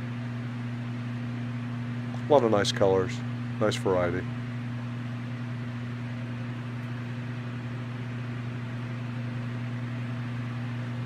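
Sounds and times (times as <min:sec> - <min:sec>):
refrigeration unit hum: 0:00.0 - 0:11.0.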